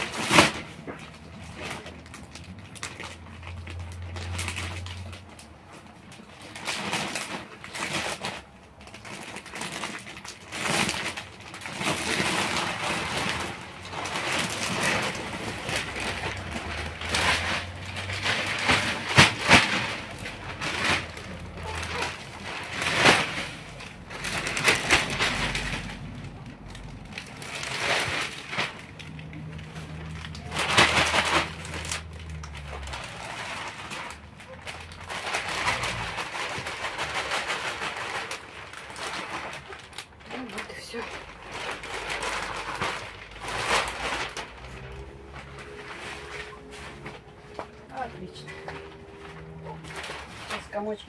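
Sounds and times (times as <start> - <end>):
plastic sack rustling: 0.0 - 51.0.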